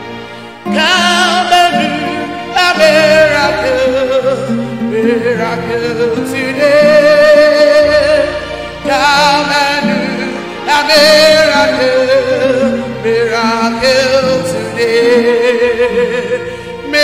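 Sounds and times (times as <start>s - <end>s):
instrumental backing: 0.0s - 17.0s
singer with vibrato: 0.6s - 17.0s.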